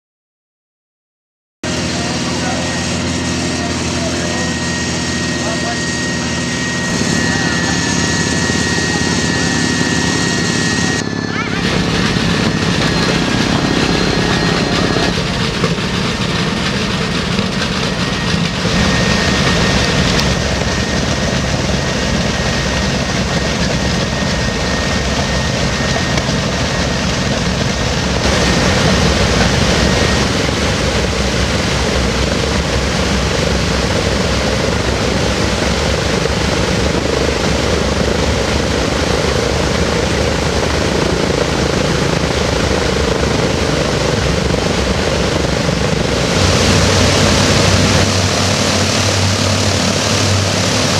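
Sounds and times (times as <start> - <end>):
propeller engines droning: 1.6 - 50.9.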